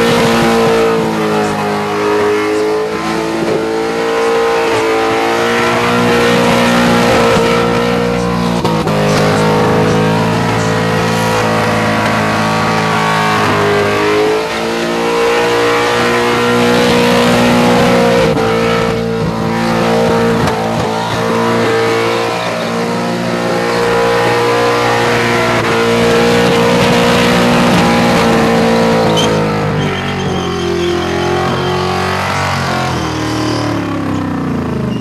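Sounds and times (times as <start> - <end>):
car engine at high revs: 0.0 - 35.0
tyre squeal: 0.2 - 35.0.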